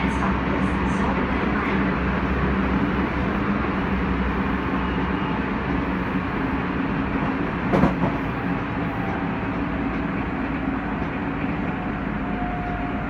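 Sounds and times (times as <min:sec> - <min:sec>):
train clatter: 0:00.0 - 0:13.0
train wheels rolling on rails: 0:00.0 - 0:13.0.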